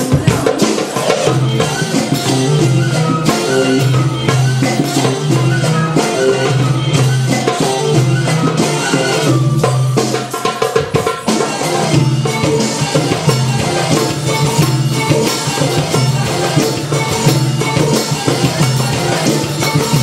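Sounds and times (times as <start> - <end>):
belly-dance music melody: 0.0 - 20.0
hand drum beating: 0.0 - 20.0.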